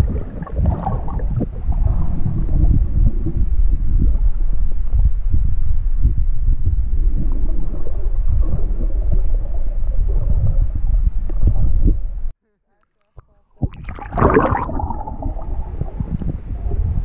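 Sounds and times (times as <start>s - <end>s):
muffled underwater rumble: 0.0s - 12.3s, 13.0s - 17.0s.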